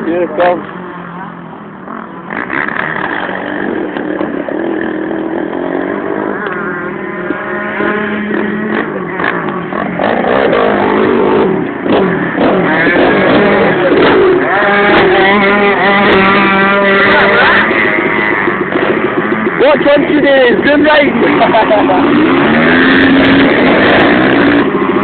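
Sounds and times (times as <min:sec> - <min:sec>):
motocross bike engine revving: 0:00.0 - 0:25.0.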